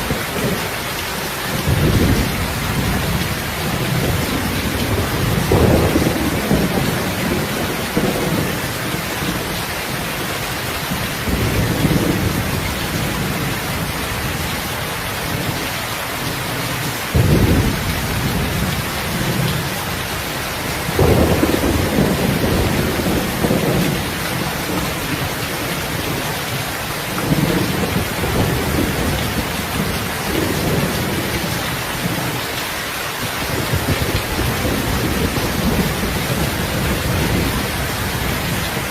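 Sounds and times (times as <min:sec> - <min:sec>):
heavy rain hiss: 0:00.0 - 0:38.9
thunder rumbling: 0:01.2 - 0:15.6, 0:16.3 - 0:32.4, 0:33.4 - 0:38.9.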